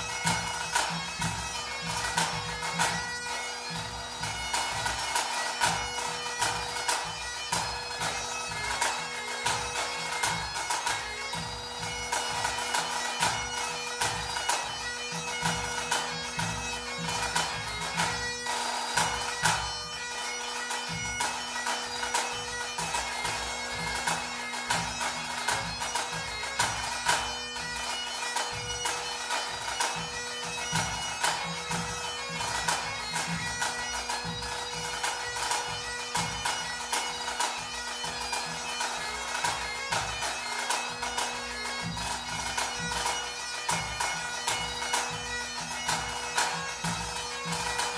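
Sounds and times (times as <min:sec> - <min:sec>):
bagpipes playing a tune: 0:00.0 - 0:47.9.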